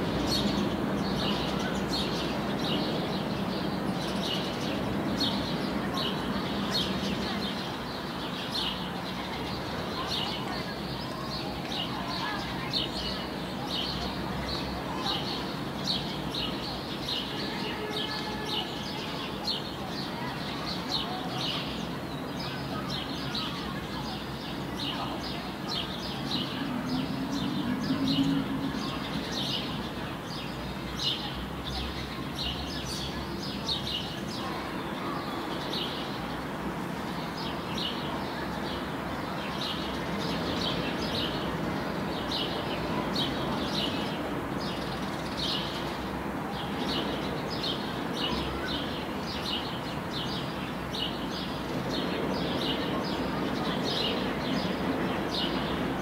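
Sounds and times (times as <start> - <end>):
low background noise: 0.0 - 56.0.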